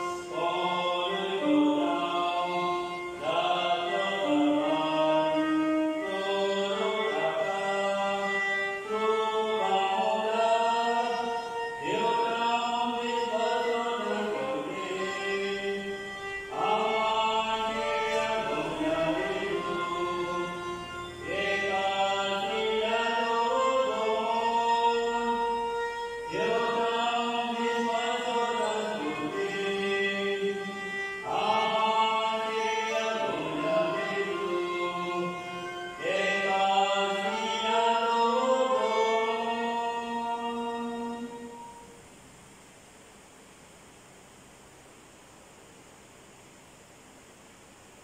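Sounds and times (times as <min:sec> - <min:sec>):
hymn sung in long held notes: 0:00.0 - 0:42.0.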